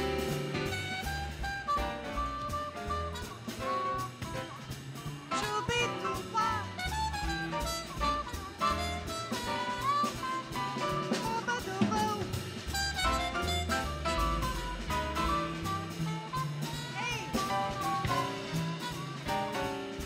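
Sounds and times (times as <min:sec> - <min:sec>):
drum kit: 0:00.0 - 0:20.0
piano: 0:00.0 - 0:20.0
trumpet: 0:00.0 - 0:20.0
walking bass: 0:00.0 - 0:20.0.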